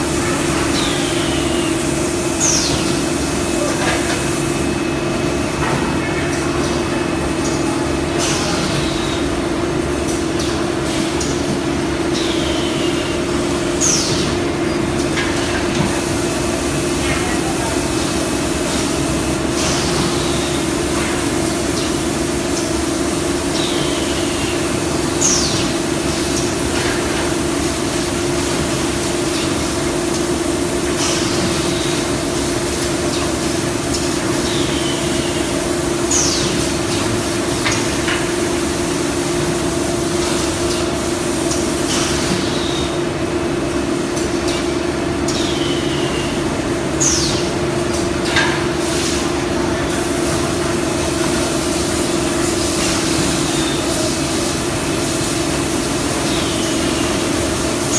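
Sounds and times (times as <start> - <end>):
factory machinery humming: 0.0 - 57.9.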